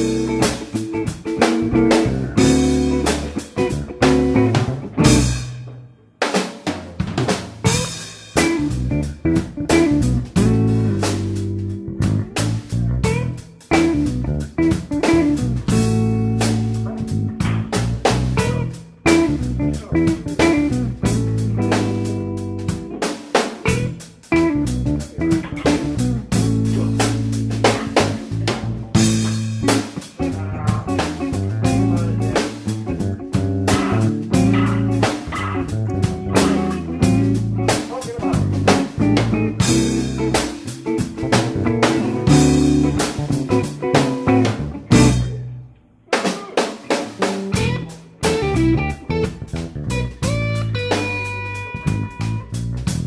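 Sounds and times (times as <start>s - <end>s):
band music with guitar and drums: 0.0s - 53.0s.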